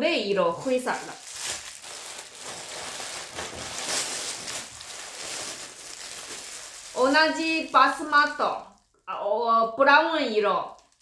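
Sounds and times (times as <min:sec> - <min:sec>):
packaging rustling and crinkling: 0:00.4 - 0:08.9, 0:10.7 - 0:11.0.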